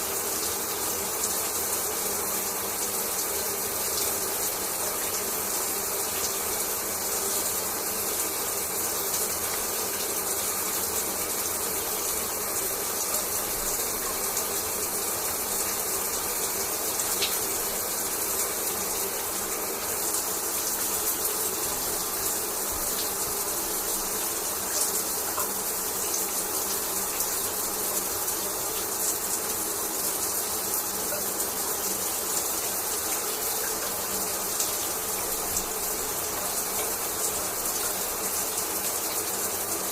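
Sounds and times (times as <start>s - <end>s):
shower water spraying: 0.0s - 39.9s.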